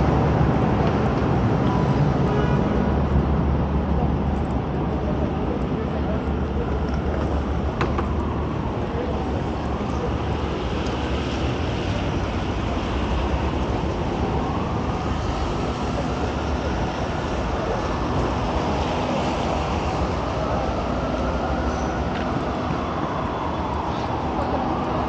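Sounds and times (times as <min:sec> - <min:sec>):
traffic on wet street: 0:00.0 - 0:25.0.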